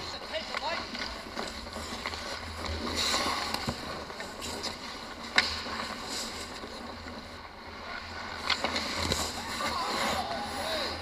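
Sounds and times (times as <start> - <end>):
skates scraping on ice: 0.0 - 11.0.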